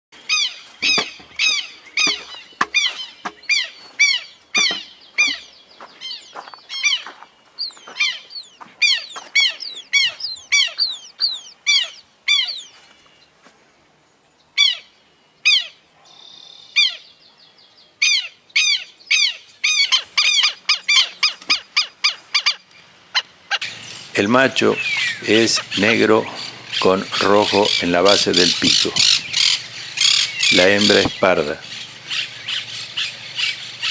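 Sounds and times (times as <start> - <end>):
birds calling harshly: 0.2 - 13.4, 14.2 - 33.9.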